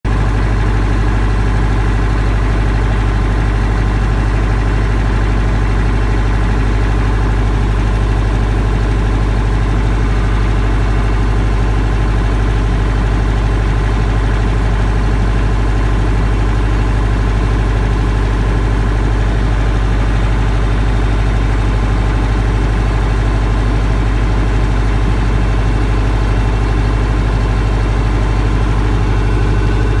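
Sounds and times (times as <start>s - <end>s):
diesel generator humming: 0.1s - 30.0s.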